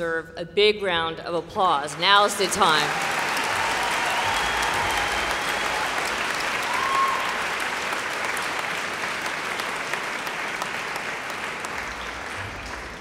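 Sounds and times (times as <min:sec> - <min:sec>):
audience applauding in a hall: 0:01.9 - 0:13.0.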